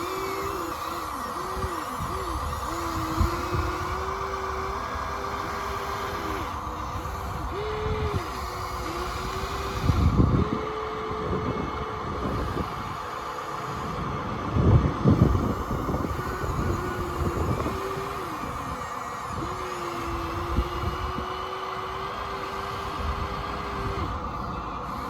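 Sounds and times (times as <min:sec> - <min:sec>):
rough motor bursts: 0:00.0 - 0:25.0
small electric motors whining: 0:00.0 - 0:25.0.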